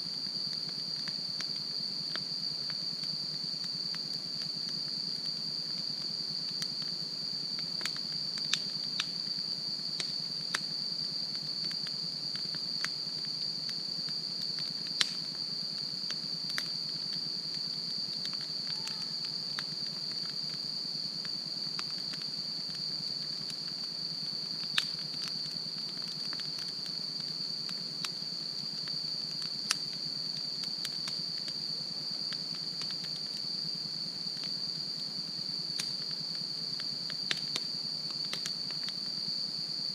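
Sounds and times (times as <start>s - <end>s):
insects trilling: 0.0s - 39.9s
campfire crackling and popping: 0.2s - 35.0s, 35.6s - 39.1s.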